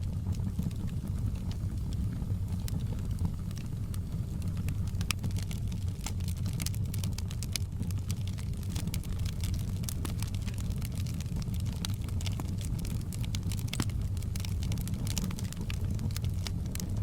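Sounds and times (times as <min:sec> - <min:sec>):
burning logs crackling: 0:00.0 - 0:17.0
low rumble of fire: 0:00.0 - 0:17.0.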